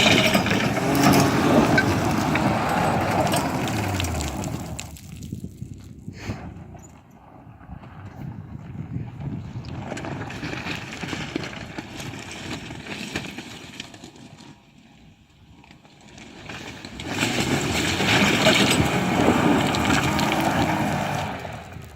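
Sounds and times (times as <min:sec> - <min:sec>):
rough car engine: 0:00.0 - 0:21.9
tyre noise off-road: 0:00.0 - 0:21.9.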